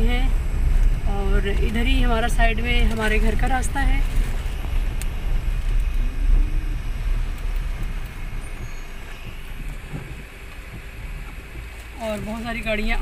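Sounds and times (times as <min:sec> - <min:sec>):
engine and road rumble: 0:00.0 - 0:13.0
rain and wet tyres hissing: 0:00.0 - 0:13.0.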